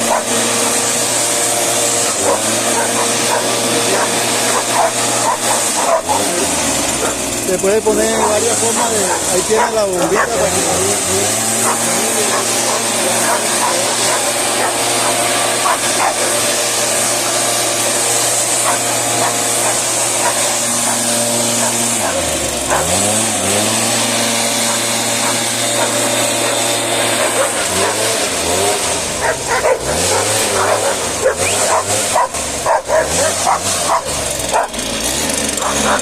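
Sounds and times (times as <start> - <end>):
two-stroke engine revving: 0.0 - 36.0.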